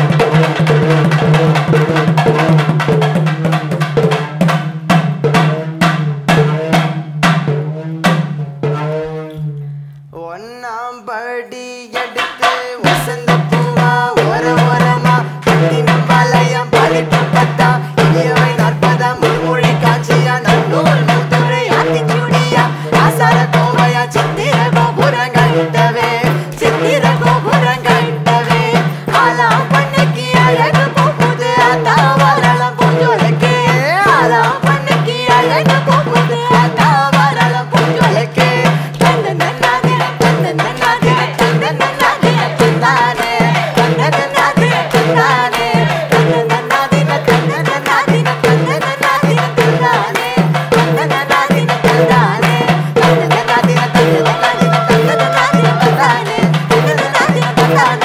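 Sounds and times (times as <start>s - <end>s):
fast hand-drum rhythm: 0.0s - 9.6s, 11.9s - 58.0s
person singing: 8.9s - 58.0s.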